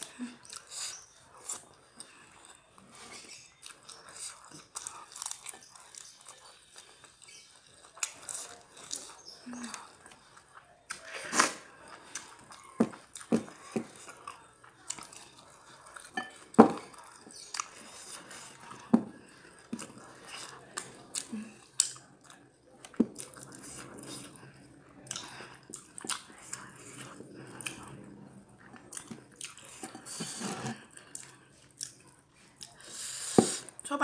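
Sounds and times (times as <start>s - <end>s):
food crunching: 0.0s - 33.8s
person chewing and lip-smacking: 0.0s - 33.8s.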